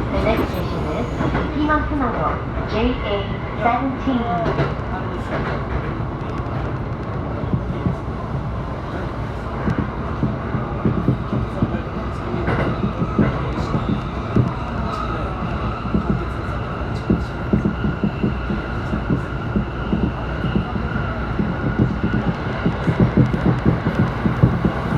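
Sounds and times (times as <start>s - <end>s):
train rumble: 0.0s - 24.9s.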